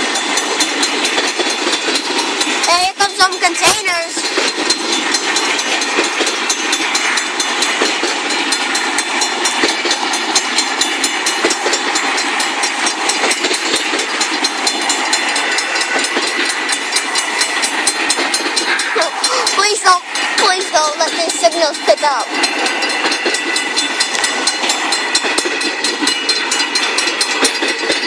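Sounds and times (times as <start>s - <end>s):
freight train rumbling past: 0.0s - 28.0s
wheel clicks and rattles: 0.0s - 28.0s.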